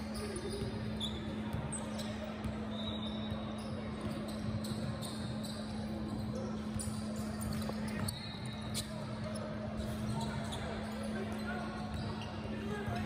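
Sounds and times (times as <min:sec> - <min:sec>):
basketball bouncing on gym court: 0:00.0 - 0:13.0
sneaker squeaks: 0:00.0 - 0:13.0.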